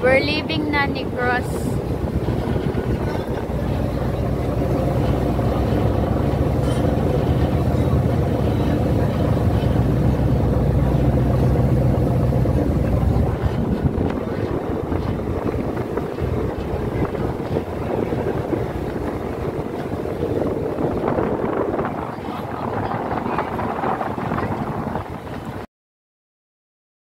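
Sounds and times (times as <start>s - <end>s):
ferry engines droning: 0.0s - 25.6s
wind buffeting microphone: 0.0s - 25.7s.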